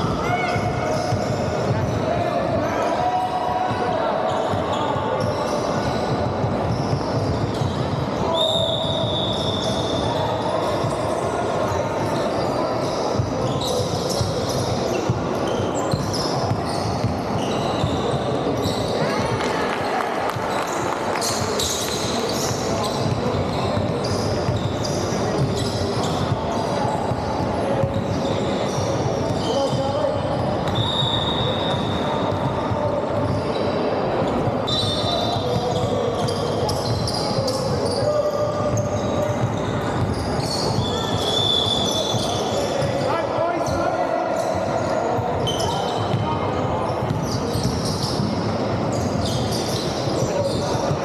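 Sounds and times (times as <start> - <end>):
spectators' voices: 0.0 - 51.0
shoes squeaking on floor: 4.1 - 19.3, 20.5 - 51.0.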